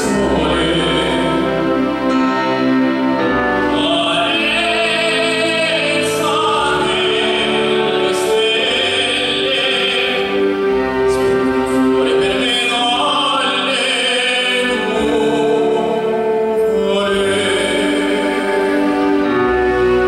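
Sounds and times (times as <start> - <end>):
cello: 0.0 - 20.0
piano: 0.0 - 20.0.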